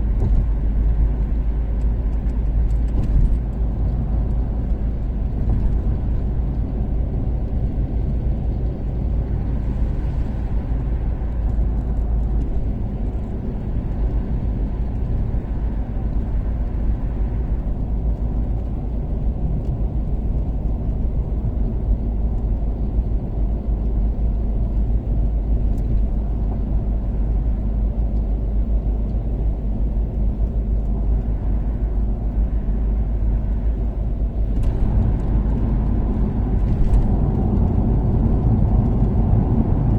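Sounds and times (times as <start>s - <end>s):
car engine and road noise drone: 0.0s - 39.9s.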